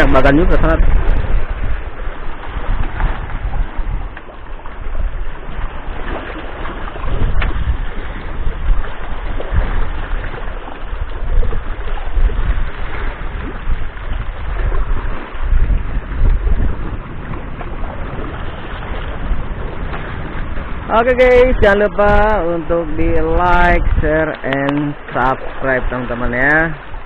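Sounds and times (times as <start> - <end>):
waves splashing against concrete: 0.0 - 27.0
wind buffeting microphone: 0.0 - 27.0.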